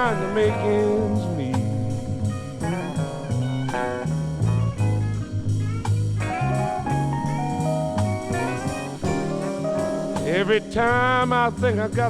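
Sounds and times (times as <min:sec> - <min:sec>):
bass line: 0:00.0 - 0:12.0
guitar lick: 0:00.0 - 0:12.0
steady drum beat: 0:00.0 - 0:12.0.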